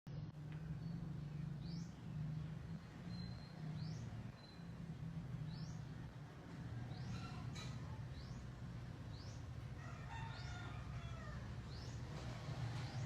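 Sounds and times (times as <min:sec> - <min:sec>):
low steady hum: 0:00.1 - 0:13.0
small bird chirping: 0:00.5 - 0:13.0.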